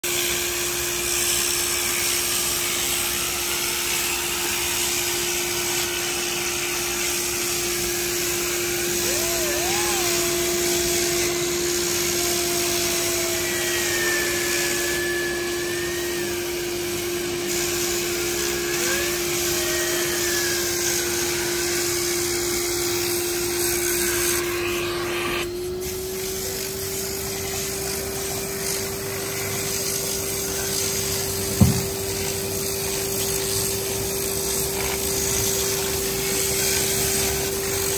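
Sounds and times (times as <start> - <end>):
drill brush scrubbing fabric: 0.0 - 37.9
vacuum motor humming: 0.0 - 37.9.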